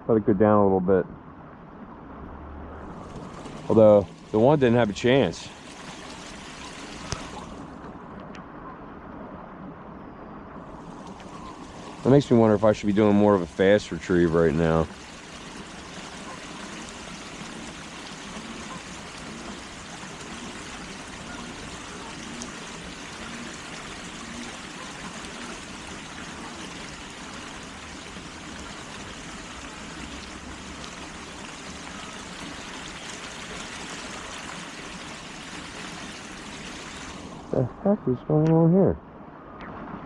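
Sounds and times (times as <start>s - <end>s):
water rushing: 1.4s - 8.4s, 10.3s - 39.0s.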